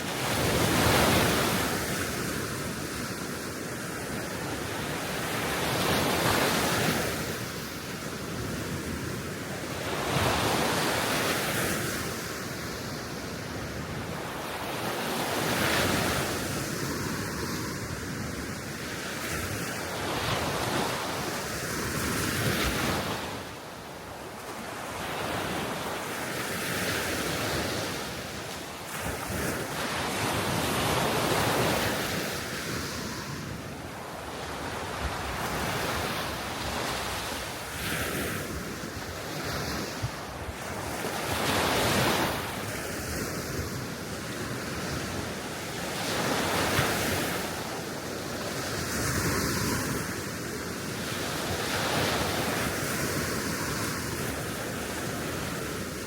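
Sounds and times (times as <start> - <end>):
small waves breaking on shore: 0.0 - 56.0.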